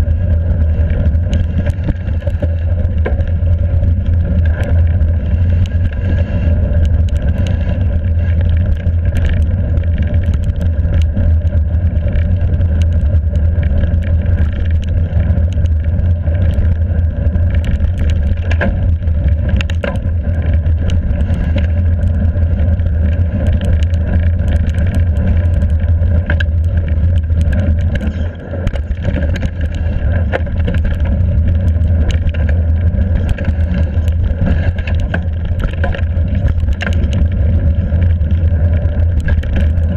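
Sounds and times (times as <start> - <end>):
bike rattling over rocks: 0.0 - 39.9
wind rumble on microphone: 0.0 - 39.9.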